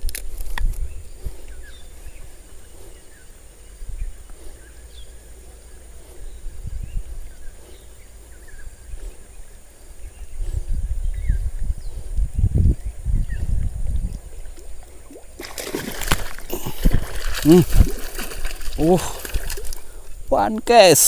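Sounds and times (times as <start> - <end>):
wind rumble on microphone: 0.0 - 15.3, 15.9 - 20.3.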